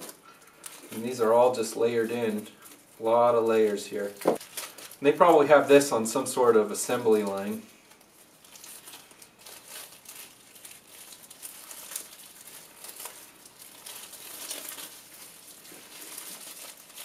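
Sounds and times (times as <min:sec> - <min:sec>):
plastic film crinkling: 0:00.0 - 0:17.0.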